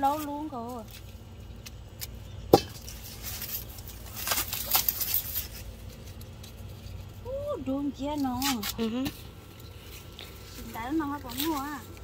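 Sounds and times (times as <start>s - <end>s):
crackling and rustling: 0.0s - 12.0s.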